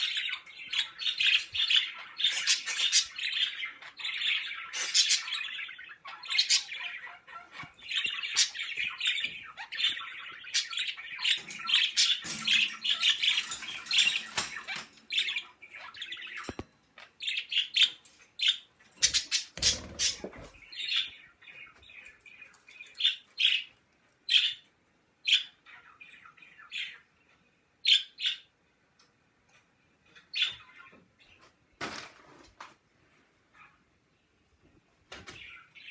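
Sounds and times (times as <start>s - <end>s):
birds chirping and squawking: 0.0s - 28.6s, 30.0s - 31.5s, 33.4s - 34.1s, 35.1s - 35.9s.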